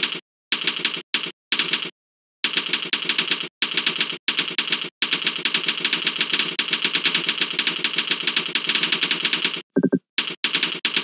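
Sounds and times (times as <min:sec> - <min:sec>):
keyboard typing: 0:00.0 - 0:11.0.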